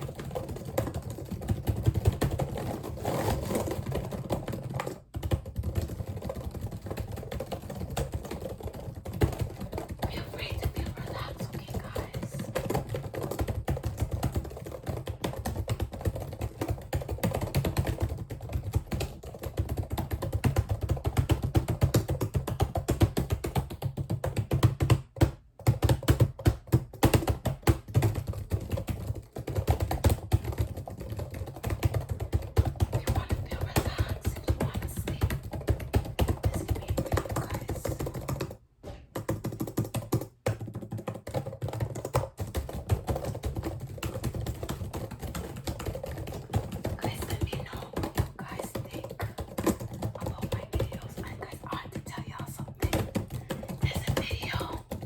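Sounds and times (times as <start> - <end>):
rapid clicking and tapping: 0.0 - 55.0.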